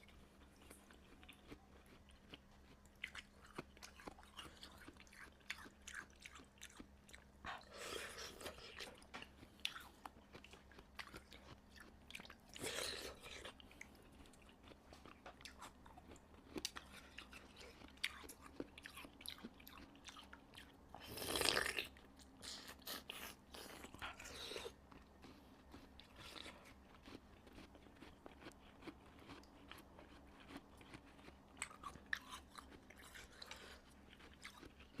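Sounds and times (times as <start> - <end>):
ice being chewed crunching: 0.1 - 21.9, 22.9 - 35.0.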